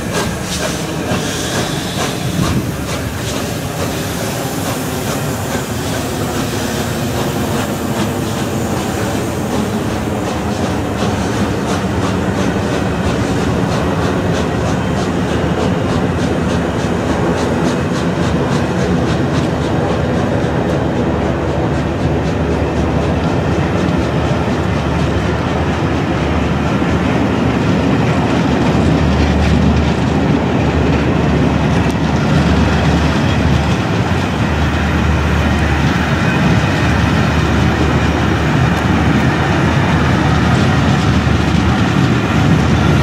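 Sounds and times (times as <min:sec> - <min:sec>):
train coaches rumbling past: 0:00.0 - 0:43.0.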